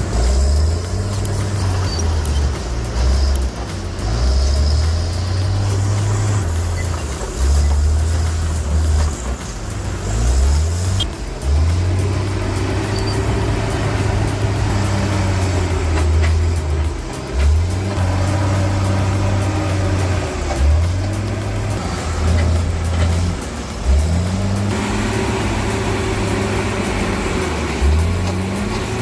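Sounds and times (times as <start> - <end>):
background music with bass line: 0.0 - 29.0
heavy equipment engine running: 0.0 - 29.0.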